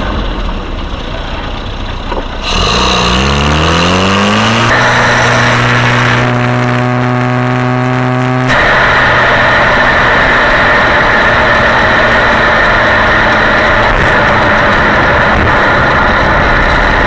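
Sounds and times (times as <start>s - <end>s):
car engine hum: 0.0s - 17.0s
loud even rushing noise: 2.4s - 17.0s.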